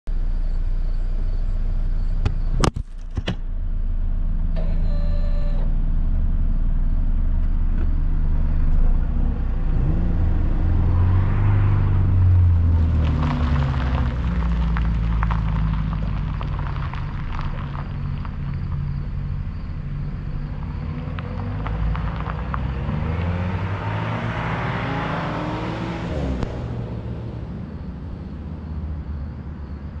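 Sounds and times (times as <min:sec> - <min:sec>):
distant car engine: 0:00.1 - 0:30.0.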